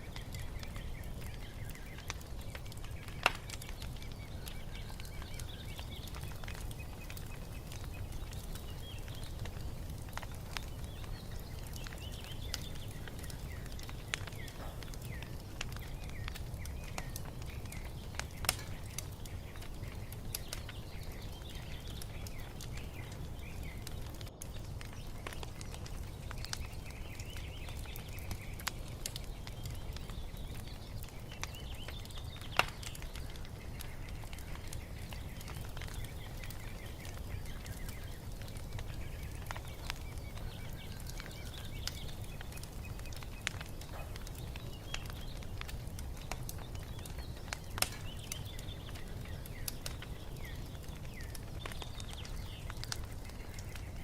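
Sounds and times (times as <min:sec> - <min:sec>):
birds chirping and singing: 0:00.0 - 0:54.0
wood fire crackling and popping: 0:00.0 - 0:54.0.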